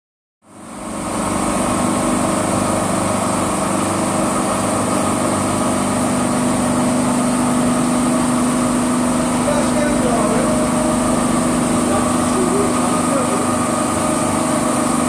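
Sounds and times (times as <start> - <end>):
carpet washing machine humming: 0.5 - 15.0.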